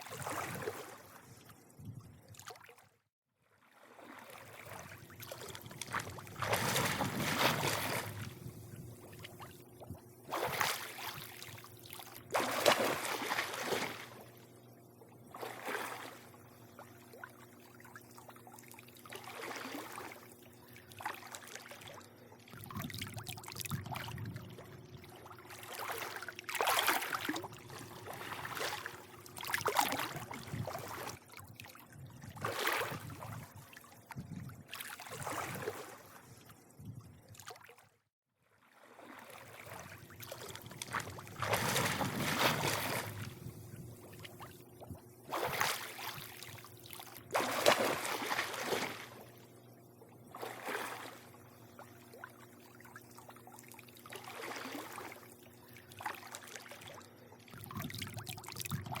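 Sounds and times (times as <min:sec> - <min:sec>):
pool water lapping and sloshing: 0:00.0 - 0:59.0
faint steady hum: 0:03.8 - 0:37.6, 0:38.8 - 0:59.0.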